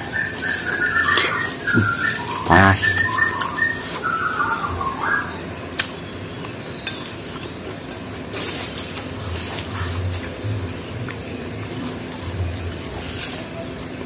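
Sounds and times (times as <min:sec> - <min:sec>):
noisy chewing: 0:00.0 - 0:04.8, 0:05.7 - 0:14.0.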